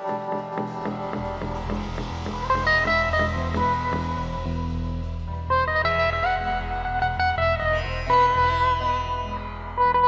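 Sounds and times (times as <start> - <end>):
guitar instrumental with bass line: 0.8 - 10.0.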